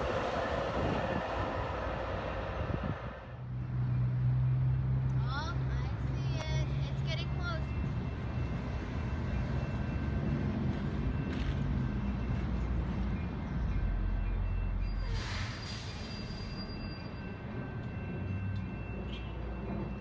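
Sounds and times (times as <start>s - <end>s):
distant train rumble: 0.0s - 20.0s.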